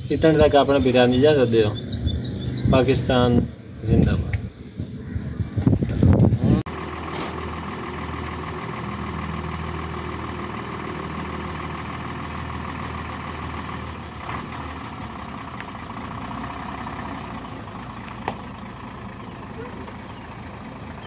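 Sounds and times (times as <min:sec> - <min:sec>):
diesel truck engine idling: 0:00.0 - 0:03.7, 0:06.6 - 0:21.0.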